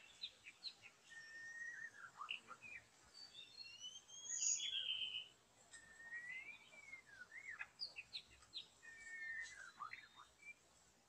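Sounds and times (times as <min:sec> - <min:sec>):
bird singing whistled phrases: 0:00.8 - 0:08.2, 0:08.8 - 0:10.6.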